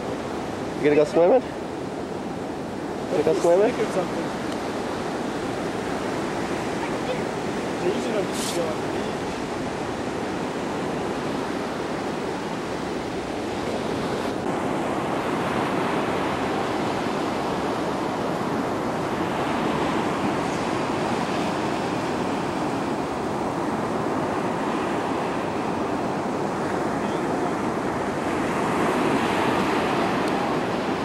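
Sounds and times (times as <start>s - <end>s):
waves rushing: 0.0s - 31.0s
wind: 0.0s - 31.0s.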